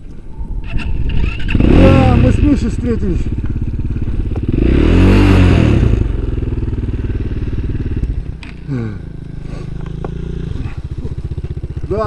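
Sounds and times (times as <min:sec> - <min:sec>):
motorcycle engine revving and idling: 0:00.5 - 0:12.0.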